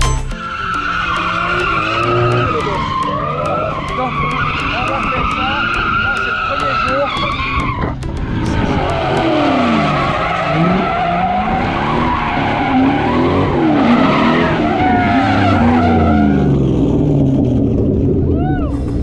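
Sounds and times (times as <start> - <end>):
tyres squealing: 0.3 - 16.6
car engine revving: 0.5 - 19.0.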